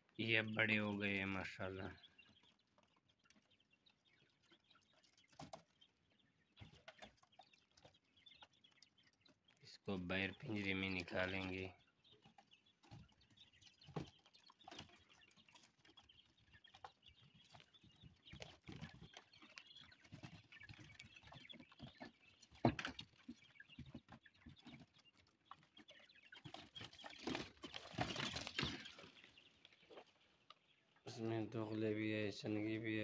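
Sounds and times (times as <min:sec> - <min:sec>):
young quail chirping: 0:00.0 - 0:33.0.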